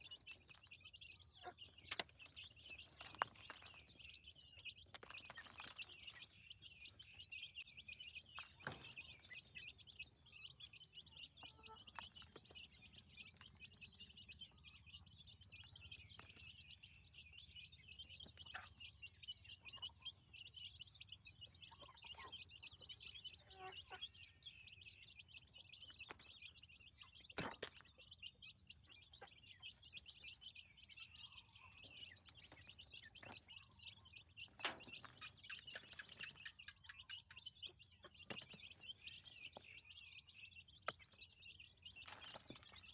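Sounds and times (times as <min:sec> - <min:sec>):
many birds chirping: 0:00.0 - 0:42.9.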